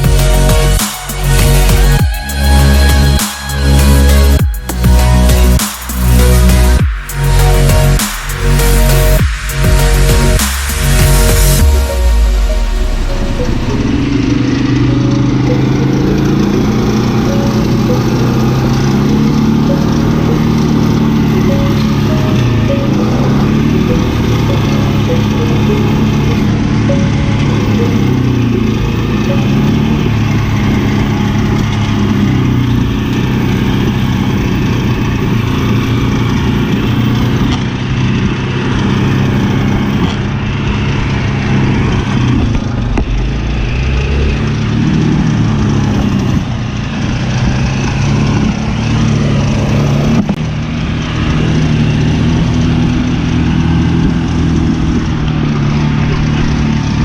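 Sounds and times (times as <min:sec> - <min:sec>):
brush mower engine drone: 0:00.0 - 0:57.0.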